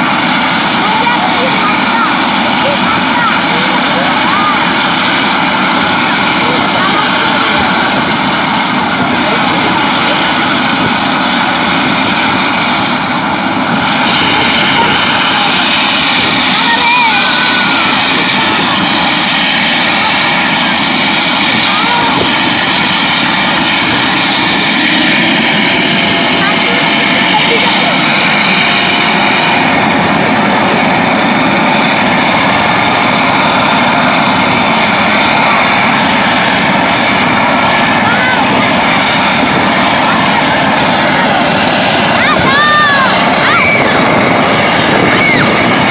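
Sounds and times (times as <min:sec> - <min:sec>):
helicopter turbine whine and rotor: 0:00.0 - 0:45.9.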